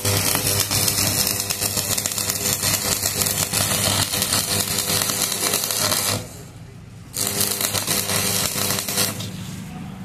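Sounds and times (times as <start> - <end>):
welding arc crackling and sizzling: 0.0 - 9.6.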